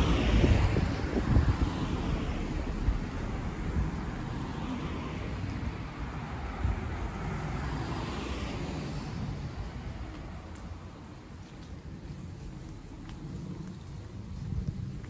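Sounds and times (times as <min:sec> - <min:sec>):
road traffic hiss: 0:00.0 - 0:15.0
wind rumbling on microphone: 0:00.0 - 0:15.0.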